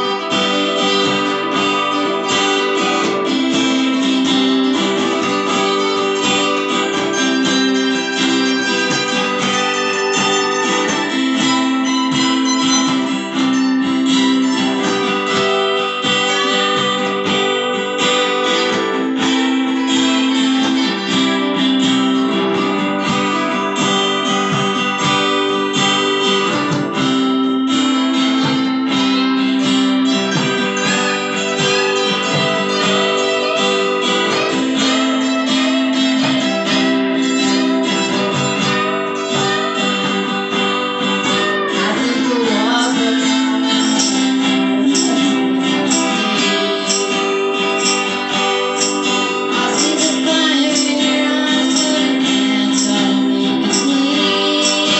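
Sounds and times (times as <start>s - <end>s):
acoustic guitar strummed: 0.0s - 54.9s
guitar picking notes: 0.0s - 54.9s.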